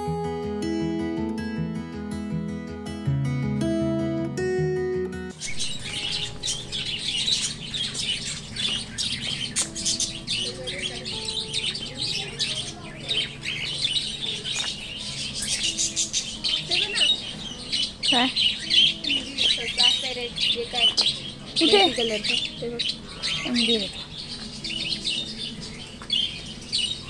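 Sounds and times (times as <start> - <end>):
acoustic guitar music: 0.0 - 27.0
budgerigars chattering and chirping: 5.3 - 27.0.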